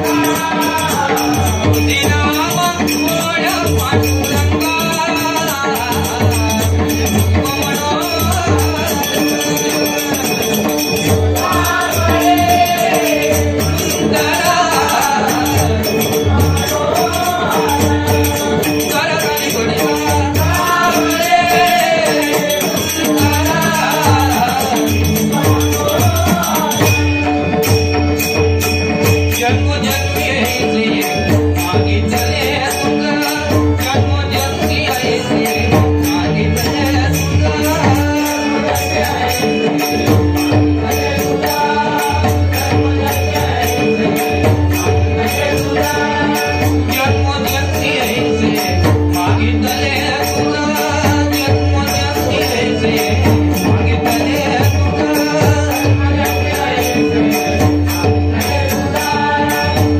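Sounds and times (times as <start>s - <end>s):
hand drum beat: 0.0s - 59.9s
harmonium drone: 0.0s - 59.9s.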